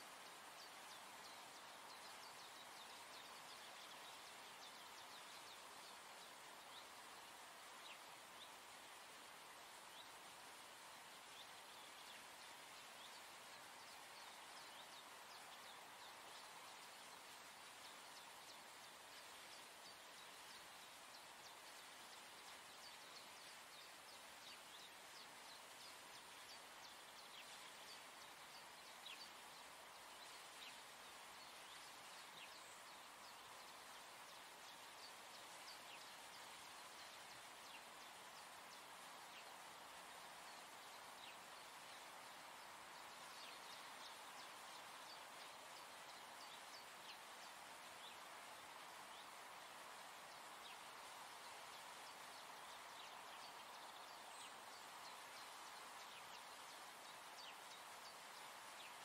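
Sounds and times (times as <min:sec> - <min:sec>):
soft steady hiss: 0:00.0 - 0:59.0.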